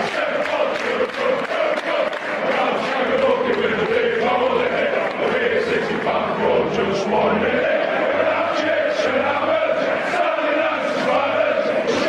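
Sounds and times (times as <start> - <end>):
football crowd singing a chant: 0.0 - 12.0.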